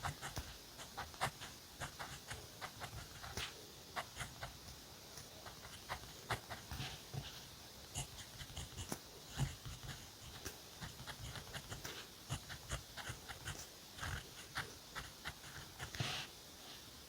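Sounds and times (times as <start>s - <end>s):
pen scratching on paper: 0.0s - 4.8s, 5.4s - 16.3s.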